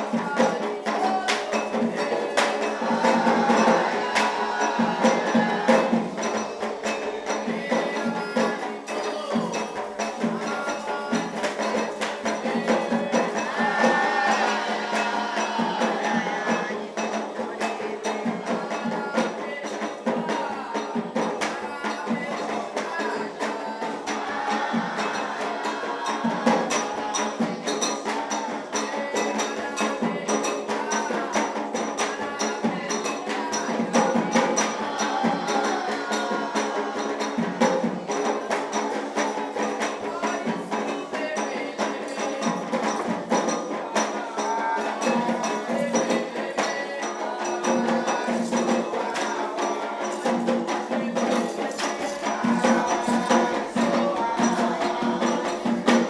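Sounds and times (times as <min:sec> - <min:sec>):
bell or wood block: 0:00.0 - 0:56.0
fast drum percussion: 0:00.0 - 0:56.0
voices singing: 0:00.0 - 0:56.0.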